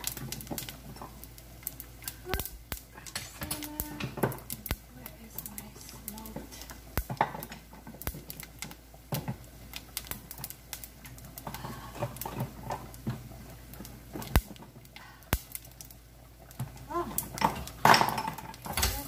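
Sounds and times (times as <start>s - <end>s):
seeds crackling and popping in skillet: 0.0s - 19.0s.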